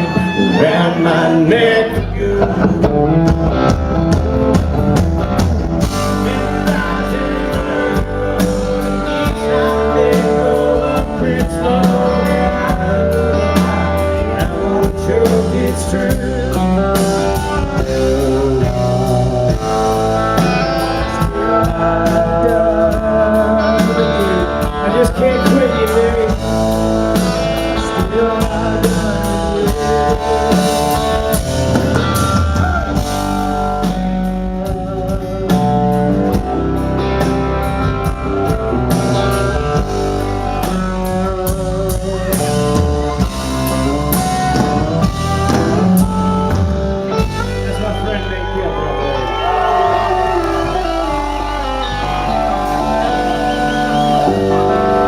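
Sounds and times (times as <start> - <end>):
country band playing: 0.0 - 55.0
lead guitar melody: 0.0 - 55.0.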